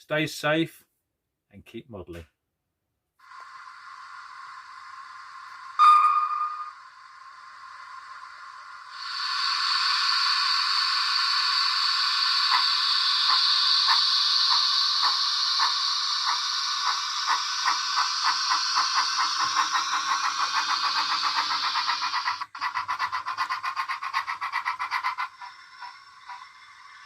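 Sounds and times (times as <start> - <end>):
steam hiss: 3.2 - 27.0
steam locomotive exhaust chuffs: 3.2 - 27.0.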